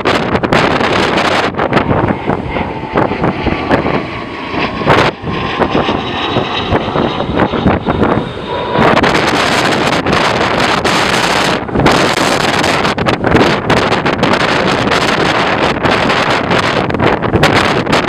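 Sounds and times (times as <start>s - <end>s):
gusty wind buffeting microphone: 0.0s - 18.0s
jet engine whine: 0.0s - 18.0s.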